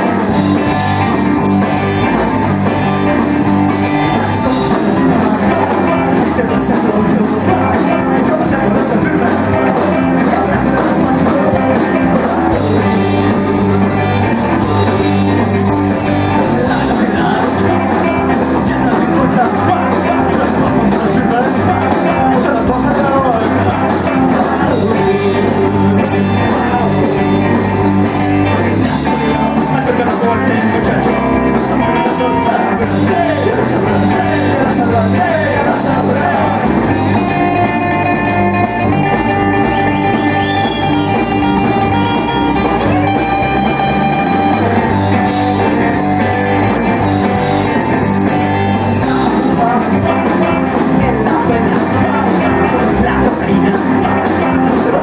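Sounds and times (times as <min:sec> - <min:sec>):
rock band playing live: 0:00.0 - 0:55.0
steady drumbeat: 0:00.0 - 0:55.0.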